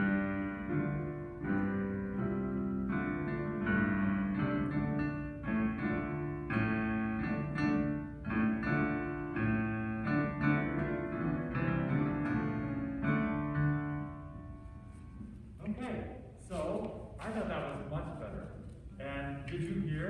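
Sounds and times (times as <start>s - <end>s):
piano-like keyboard: 0.0s - 16.2s.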